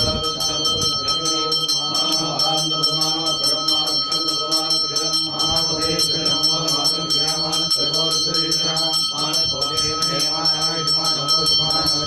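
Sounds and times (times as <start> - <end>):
chanting: 0.0 - 12.0
temple bell rung rapidly: 0.0 - 12.0.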